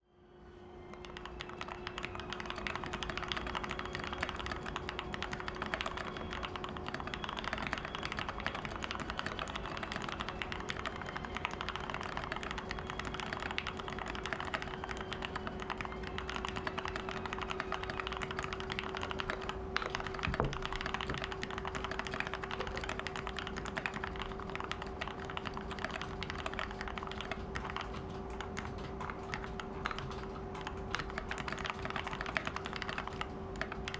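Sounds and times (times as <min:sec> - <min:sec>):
faint hum: 0:00.0 - 0:33.9
mechanical keyboard typing: 0:00.9 - 0:33.9.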